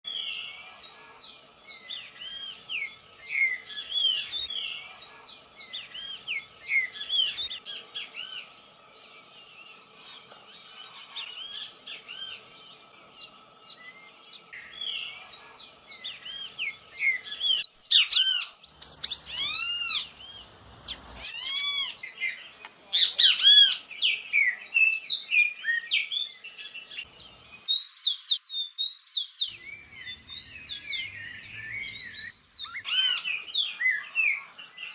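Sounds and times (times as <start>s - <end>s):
birds singing and calling: 0.0s - 34.9s.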